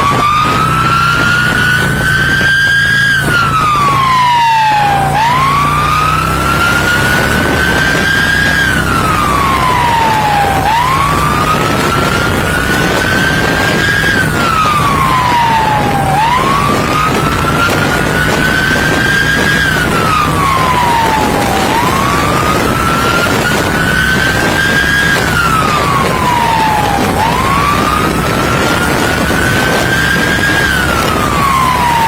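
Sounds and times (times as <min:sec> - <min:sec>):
engine and road noise: 0:00.0 - 0:32.0
police siren wailing: 0:00.0 - 0:32.0.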